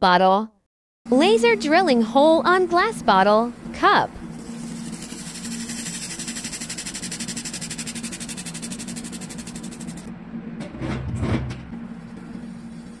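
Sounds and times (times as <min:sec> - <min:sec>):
steady machine hum: 0:01.1 - 0:13.0.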